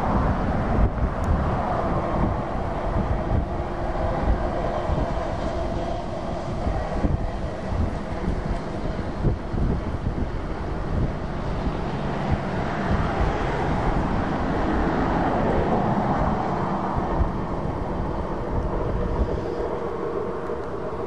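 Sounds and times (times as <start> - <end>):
train rolling over rails: 0.0 - 21.0.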